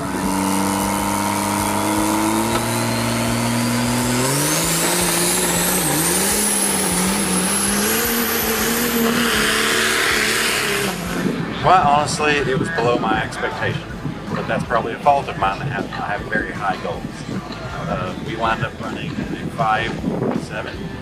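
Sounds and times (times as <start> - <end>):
diesel truck engine revving: 0.0 - 21.0
high turbo whine: 0.0 - 21.0.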